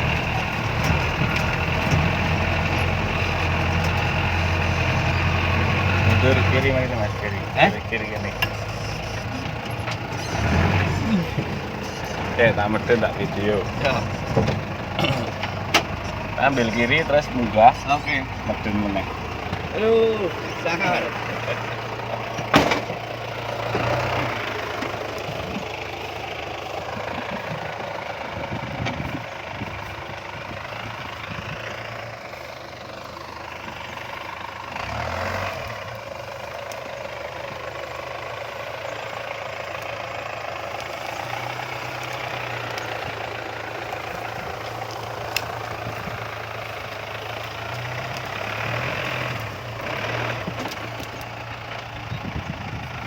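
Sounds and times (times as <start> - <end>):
diesel engine running at low revs: 0.0 - 53.0.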